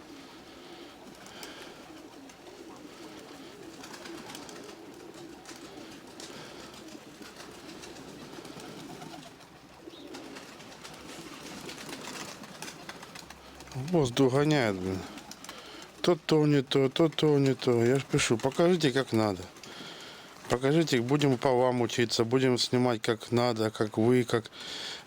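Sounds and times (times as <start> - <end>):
pigeons cooing: 0.0 - 22.4, 23.3 - 25.0.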